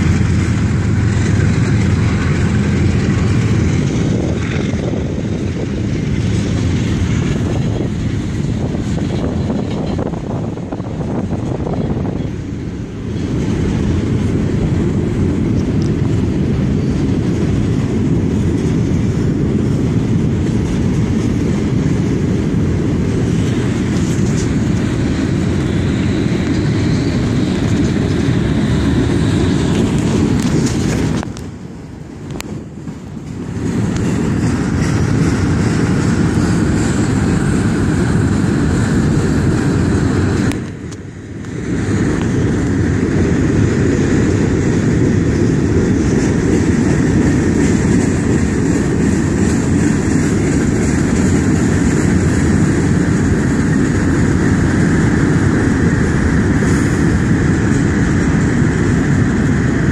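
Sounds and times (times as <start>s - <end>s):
freight train cars rumbling: 0.0s - 59.9s.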